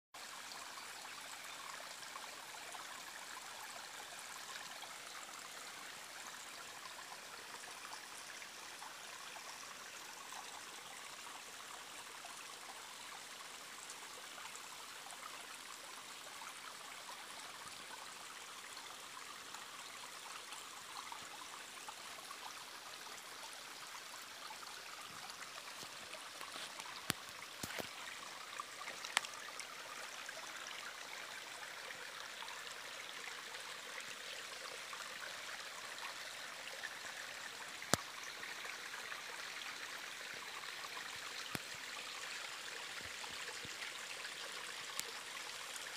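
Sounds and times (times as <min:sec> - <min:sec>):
stream running over stones: 0:00.2 - 0:45.9.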